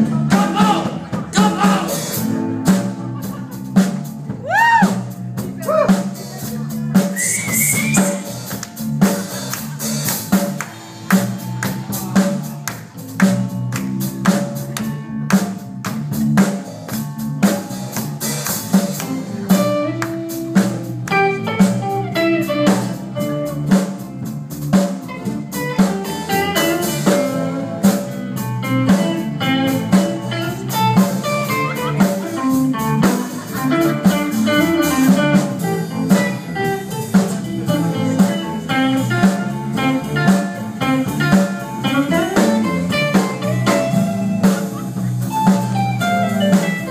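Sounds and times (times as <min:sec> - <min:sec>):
bass guitar: 0:00.0 - 0:46.9
steady drum-kit beat: 0:00.0 - 0:46.9.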